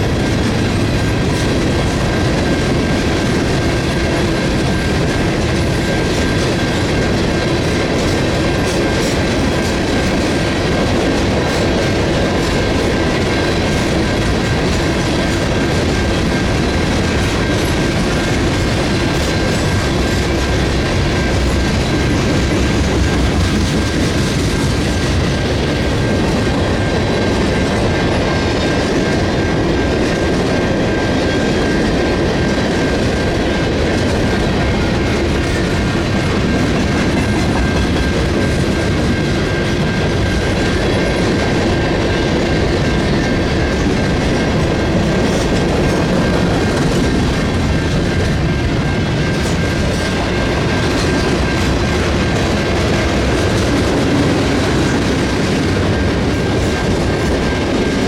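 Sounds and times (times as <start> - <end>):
high ring of wheels on rails: 0.0 - 58.0
wheels clacking over rail joints: 0.0 - 58.0.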